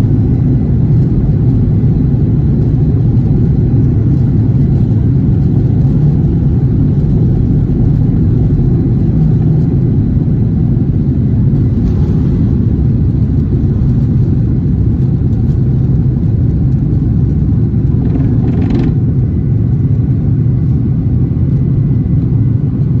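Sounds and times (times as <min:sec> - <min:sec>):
airliner engines rumbling: 0:00.0 - 0:23.0.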